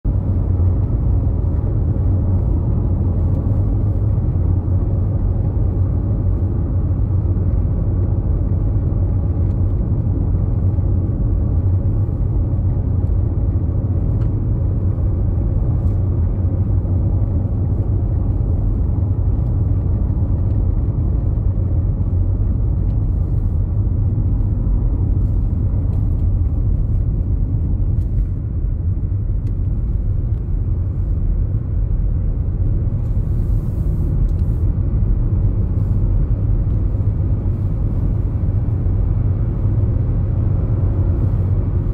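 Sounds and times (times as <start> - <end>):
tyre and road noise: 0.0 - 41.9.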